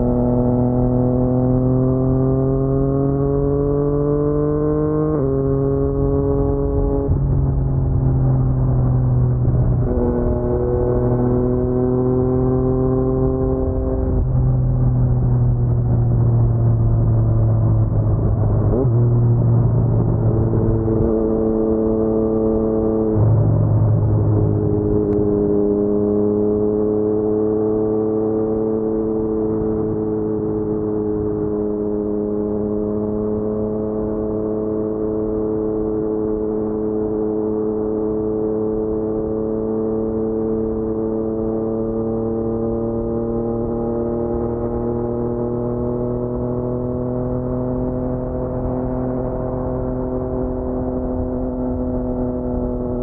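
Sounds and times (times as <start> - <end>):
motorcycle engine droning: 0.0 - 53.0.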